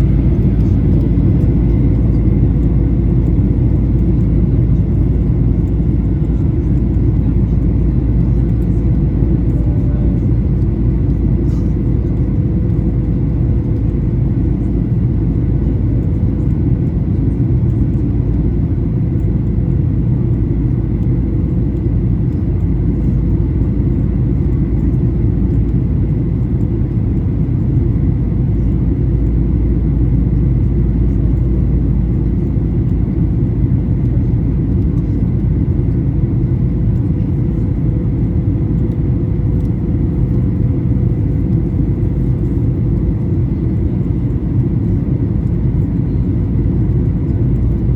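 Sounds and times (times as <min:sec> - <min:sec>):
airplane cabin rumble: 0:00.0 - 0:47.9
faint steady whine: 0:00.0 - 0:47.9.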